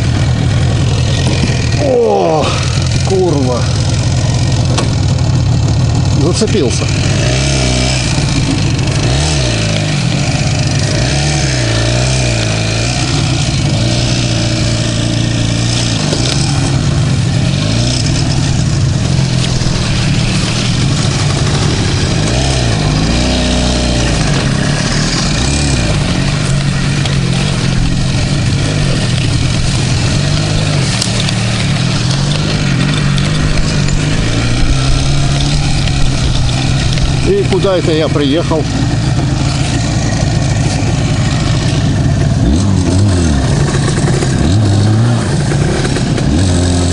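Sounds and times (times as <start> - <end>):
two-stroke motorcycle engine revving: 0.0 - 46.9.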